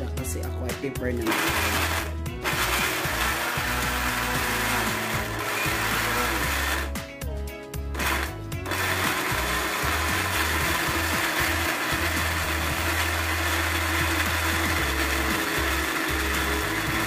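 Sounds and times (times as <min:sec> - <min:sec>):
electric blender running: 0:01.3 - 0:07.0, 0:07.9 - 0:17.0.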